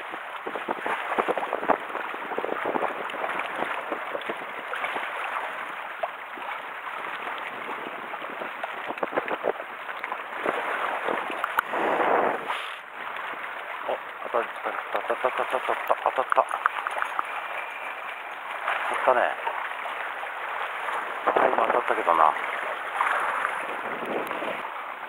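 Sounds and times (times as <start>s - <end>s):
sea water splashing against rocks: 0.0s - 25.0s.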